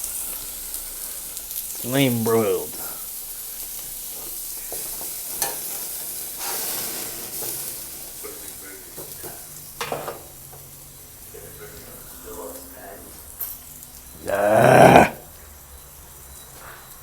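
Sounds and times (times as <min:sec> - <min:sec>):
burger patties sizzling: 0:00.0 - 0:14.4.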